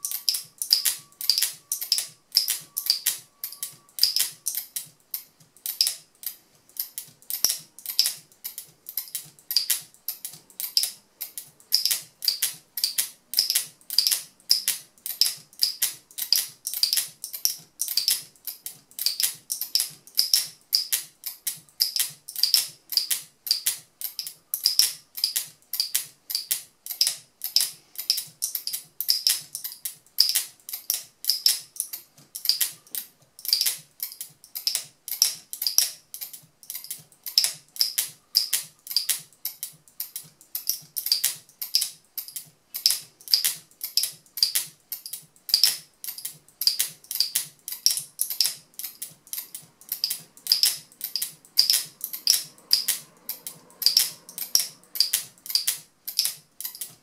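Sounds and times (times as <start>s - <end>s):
locking mechanism clicking: 0.0s - 57.0s.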